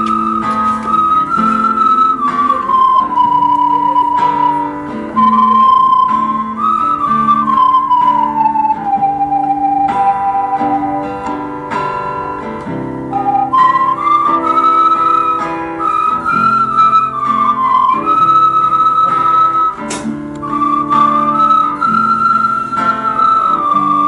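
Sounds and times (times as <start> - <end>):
ocarinas playing melody: 0.0 - 24.0.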